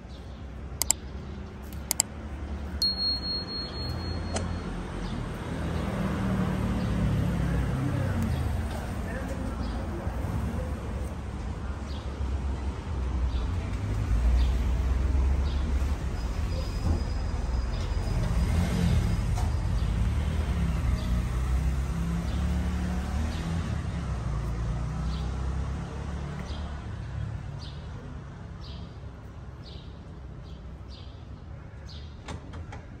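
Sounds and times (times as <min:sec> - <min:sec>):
motor vehicle rumble: 0:00.0 - 0:31.4.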